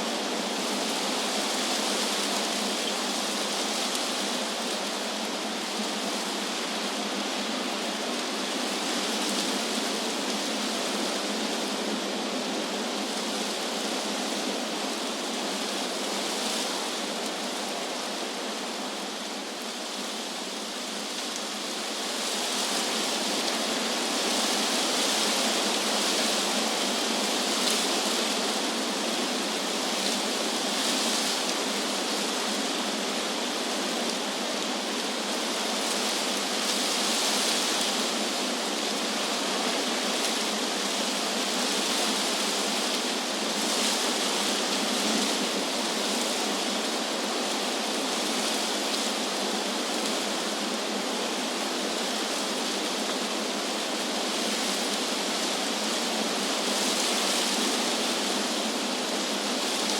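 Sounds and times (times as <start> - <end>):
wind rustling tree leaves: 0.0 - 59.9.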